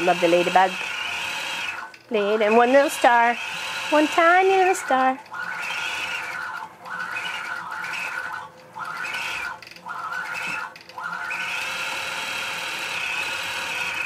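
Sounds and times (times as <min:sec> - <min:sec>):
quilting machine motor whine: 0:00.0 - 0:14.0.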